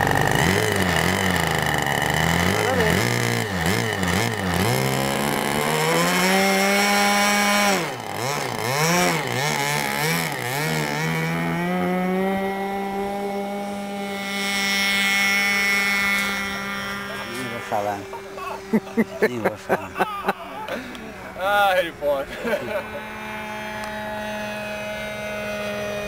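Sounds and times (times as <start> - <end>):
model airplane motor buzzing: 0.0 - 26.0.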